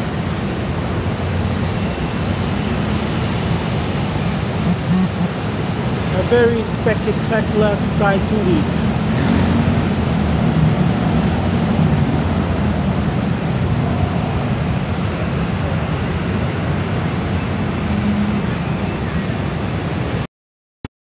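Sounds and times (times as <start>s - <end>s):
motorbike and scooter traffic: 0.0s - 20.3s.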